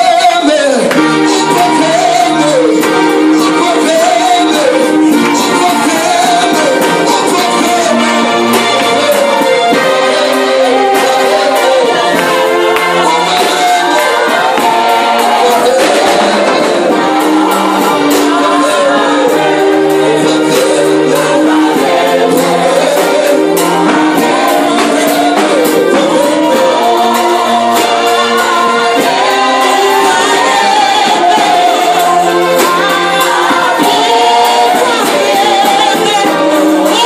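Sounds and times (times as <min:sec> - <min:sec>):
electronic keyboard chords: 0:00.0 - 0:37.0
singers: 0:00.0 - 0:37.0.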